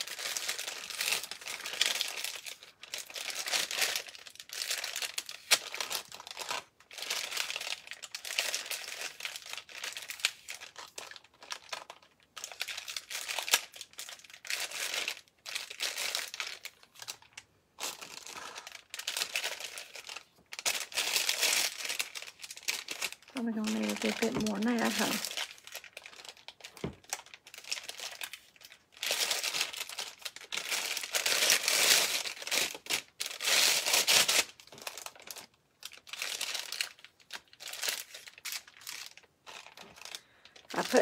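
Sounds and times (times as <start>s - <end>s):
plastic bag crinkling: 0.0s - 41.0s.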